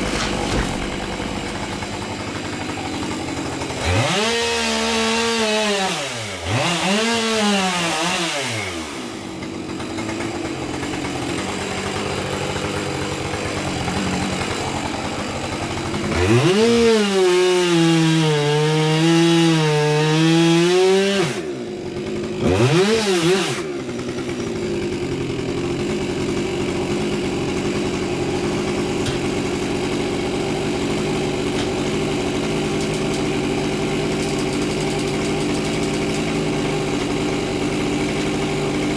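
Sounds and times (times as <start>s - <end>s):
chainsaw engine revving and idling: 0.0s - 38.9s.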